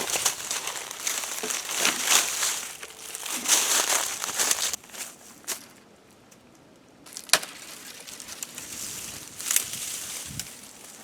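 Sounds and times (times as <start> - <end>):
dry brush rustling and crackling: 0.0 - 5.8, 7.0 - 11.0.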